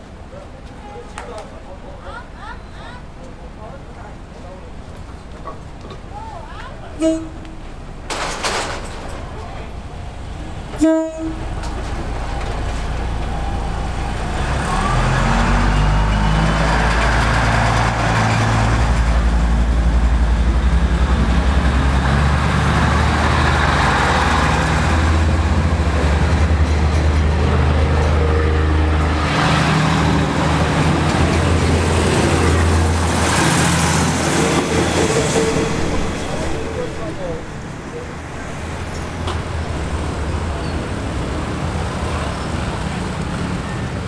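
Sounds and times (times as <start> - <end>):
diesel railcar engine drone: 0.0 - 44.0.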